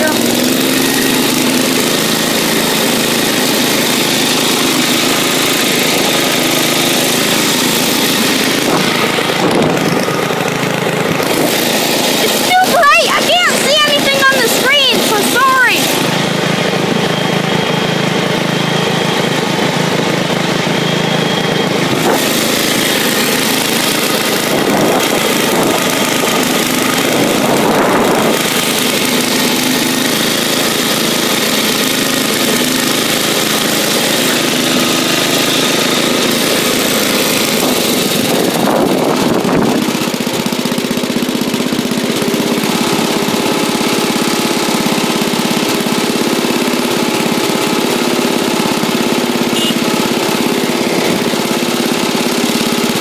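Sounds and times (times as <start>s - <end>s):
garden tractor engine running: 0.0s - 53.0s.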